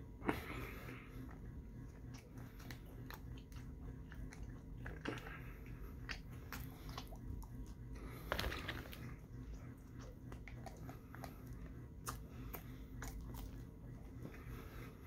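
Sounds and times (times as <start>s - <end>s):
low steady hum: 0.0s - 15.0s
chewing and biting: 0.3s - 15.0s.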